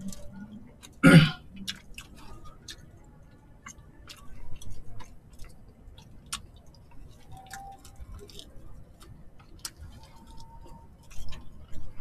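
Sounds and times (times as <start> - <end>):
person chewing: 0.0 - 3.0, 3.6 - 12.0.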